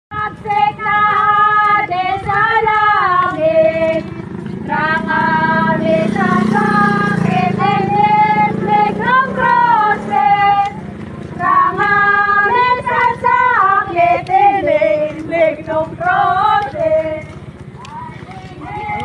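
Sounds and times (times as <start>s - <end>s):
motorcycle engine hum: 0.2s - 19.0s
women singing slow melody: 0.2s - 19.0s.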